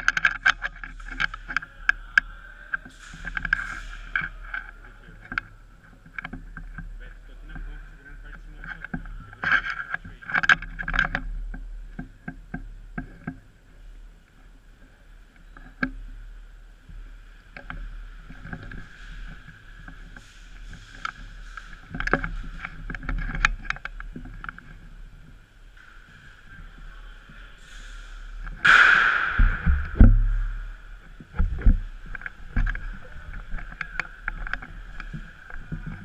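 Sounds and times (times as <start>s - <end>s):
sharp clicks and knocks: 0.0s - 6.9s, 8.3s - 13.4s, 16.9s - 26.3s, 27.3s - 36.0s
steady hum: 0.0s - 36.0s.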